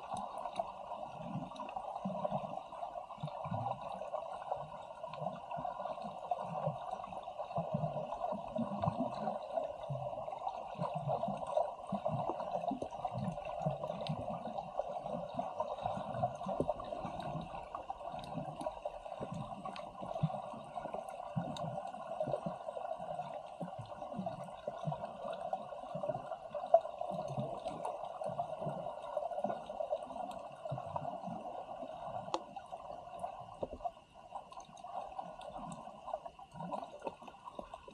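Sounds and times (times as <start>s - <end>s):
muffled water sloshing and gurgling: 0.0s - 37.9s.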